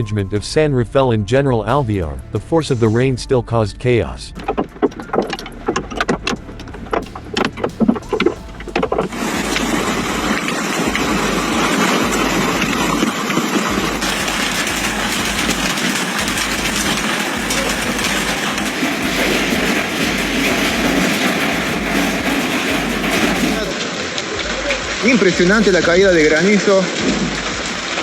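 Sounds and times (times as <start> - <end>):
heavy hail pelting hard surfaces: 4.4 - 28.0.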